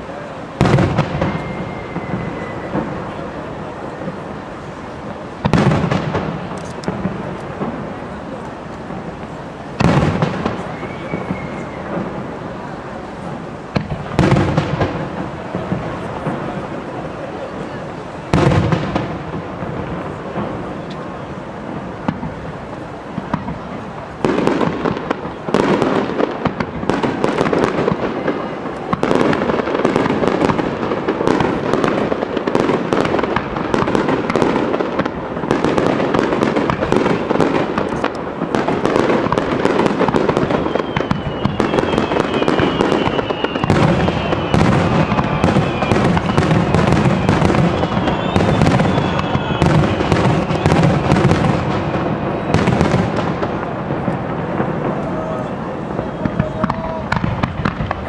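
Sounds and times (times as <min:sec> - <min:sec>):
fireworks bursting: 0:00.0 - 0:58.0
fireworks crackling: 0:00.0 - 0:58.0
high whistling fireworks: 0:00.0 - 0:58.0.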